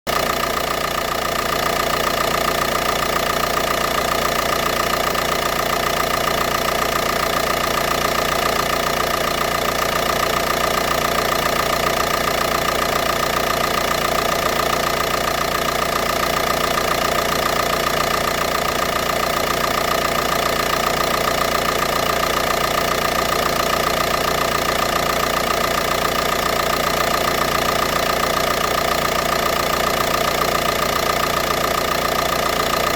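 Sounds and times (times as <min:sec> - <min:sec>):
diesel engine idling: 0:00.1 - 0:32.9.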